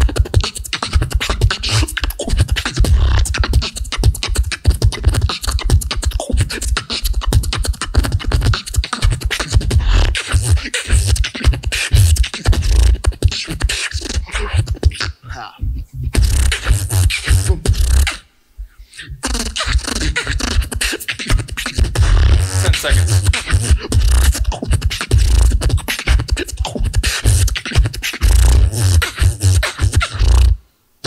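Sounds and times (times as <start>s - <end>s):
beatboxing through speakers: 0.0s - 30.6s.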